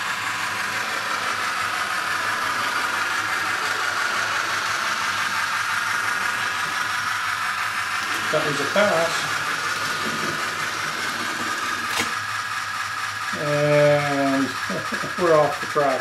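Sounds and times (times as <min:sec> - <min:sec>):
faint wheel-on-rail noise: 0:00.0 - 0:13.4
steam locomotive sounds from small speaker: 0:00.0 - 0:16.0.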